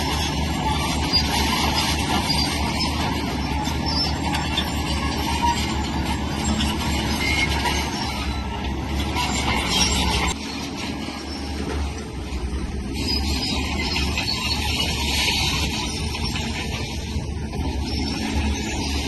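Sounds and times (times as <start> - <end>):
diesel engine under load: 0.0 - 19.0
steel tracks squealing and clanking: 0.0 - 19.0.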